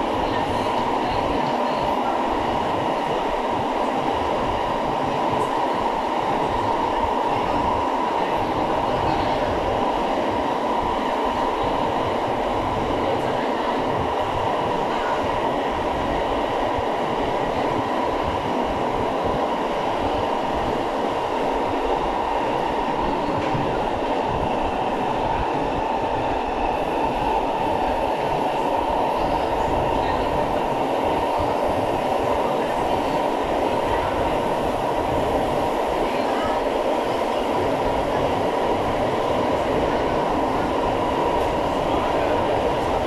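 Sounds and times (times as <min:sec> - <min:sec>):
metro train rumble inside carriage: 0:00.0 - 0:43.0.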